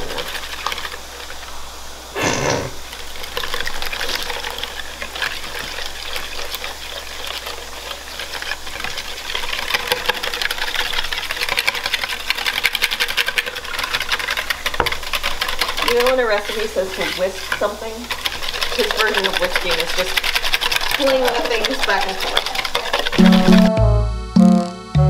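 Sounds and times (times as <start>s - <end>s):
whisk beating batter in a bowl: 0.0s - 1.6s, 2.8s - 23.7s.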